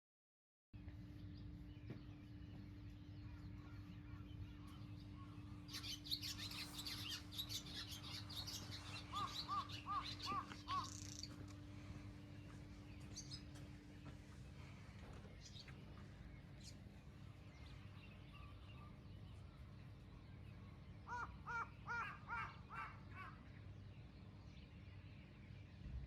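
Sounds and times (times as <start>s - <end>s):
birds chirping: 0.8s - 26.0s
steady low hum: 0.8s - 26.0s.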